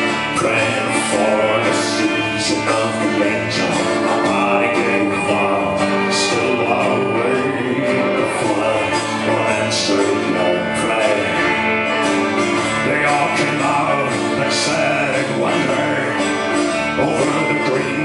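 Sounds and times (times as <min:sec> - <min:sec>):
folk-country band playing: 0:00.0 - 0:18.0.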